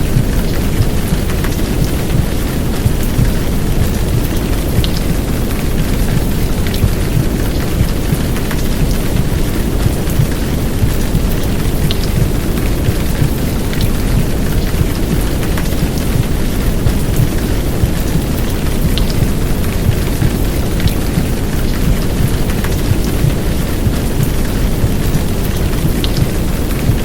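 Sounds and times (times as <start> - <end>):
deep steady rumbling: 0.0 - 27.0
heavy rain downpour: 0.0 - 27.0.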